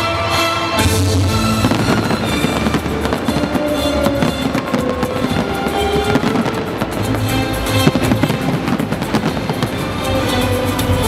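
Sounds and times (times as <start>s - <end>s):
loud music: 0.0s - 11.0s
fireworks bangs and crackles: 0.2s - 11.0s.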